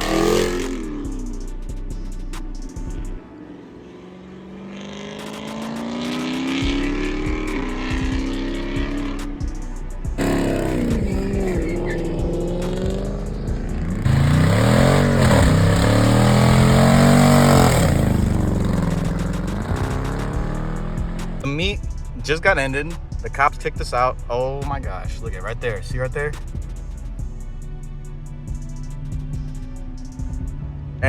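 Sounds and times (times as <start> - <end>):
cars revving and accelerating: 0.0 - 27.2.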